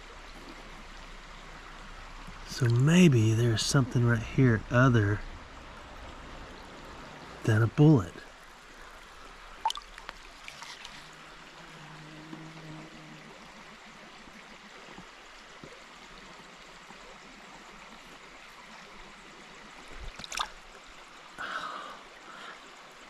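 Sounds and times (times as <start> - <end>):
rush of disturbed water: 0.0 - 11.6, 13.2 - 23.0
creek water running: 0.0 - 23.0.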